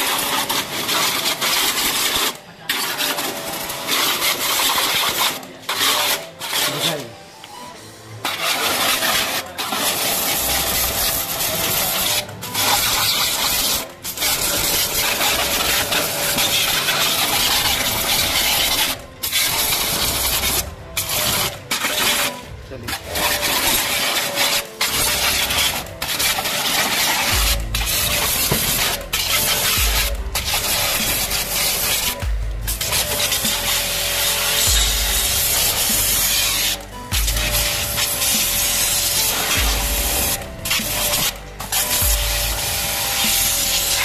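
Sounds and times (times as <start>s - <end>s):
water spray hissing: 8.2s - 44.0s.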